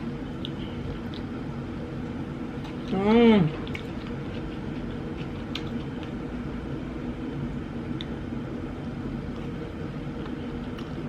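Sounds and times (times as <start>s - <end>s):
low hum of room noise: 0.0s - 11.0s.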